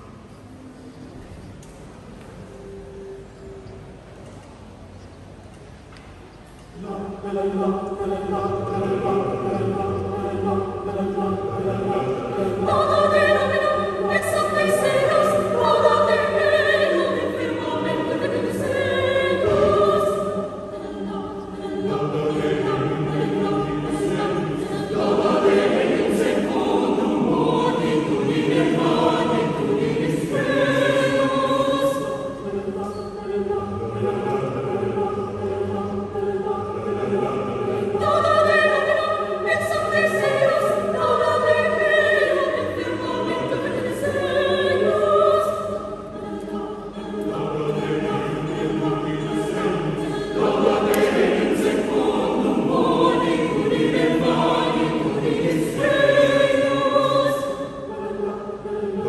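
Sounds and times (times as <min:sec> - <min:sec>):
choir singing: 0:06.7 - 0:59.0.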